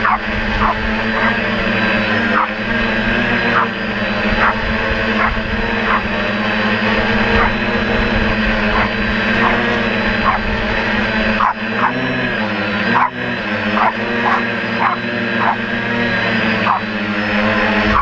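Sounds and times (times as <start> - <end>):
quadcopter motors humming: 0.0 - 18.0.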